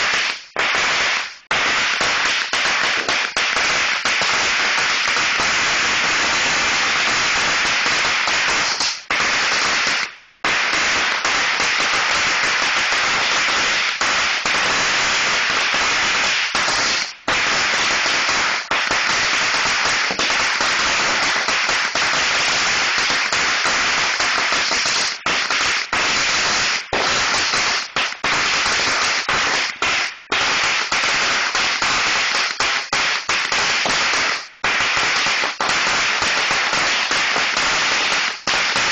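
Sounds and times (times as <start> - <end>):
firecrackers popping: 0.0 - 38.9.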